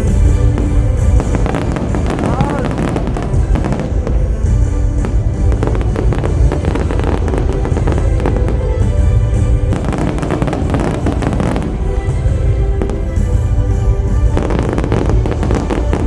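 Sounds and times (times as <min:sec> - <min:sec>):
fireworks bursts and crackling: 0:00.0 - 0:16.0
low fireworks rumble: 0:00.0 - 0:16.0
music soundtrack: 0:00.0 - 0:16.0.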